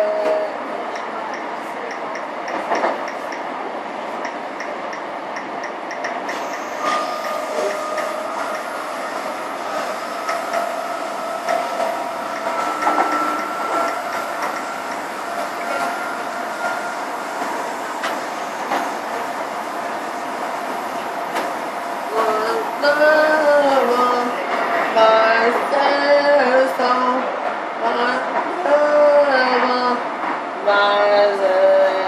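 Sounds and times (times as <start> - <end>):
electric train whine: 0.0 - 32.0
train carriage rumble: 0.0 - 32.0.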